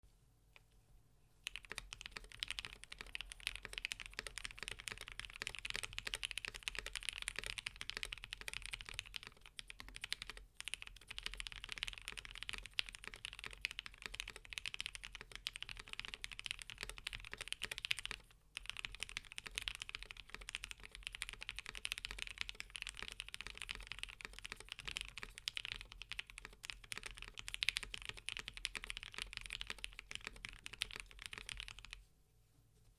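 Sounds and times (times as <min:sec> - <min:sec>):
fast mechanical keyboard typing: 0:01.4 - 0:32.0.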